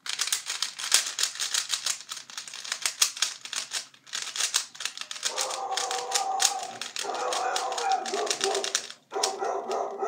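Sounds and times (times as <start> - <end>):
plastic puzzle cube clicking: 0.0 - 10.0.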